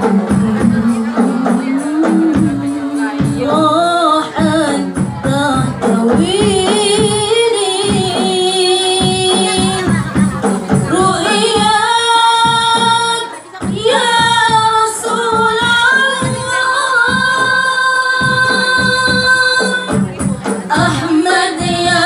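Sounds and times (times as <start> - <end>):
hand drums beating: 0.0 - 22.0
woman singing devotional song: 0.0 - 22.0.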